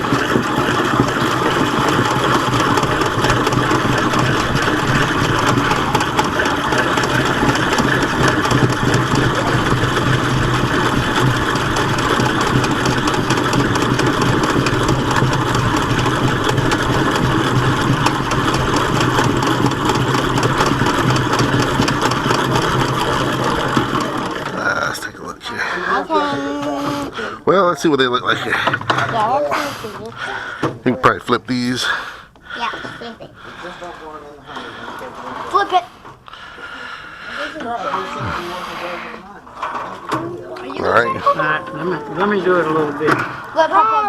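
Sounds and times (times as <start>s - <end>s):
honey extractor whirring: 0.0s - 44.0s.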